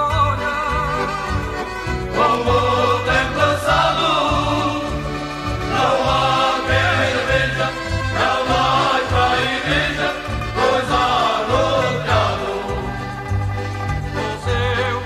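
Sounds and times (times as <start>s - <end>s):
group of voices singing: 2.1s - 15.0s.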